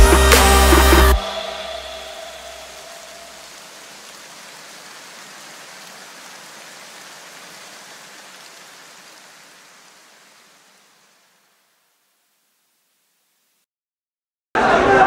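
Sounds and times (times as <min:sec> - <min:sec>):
steady hiss: 0:00.1 - 0:13.6.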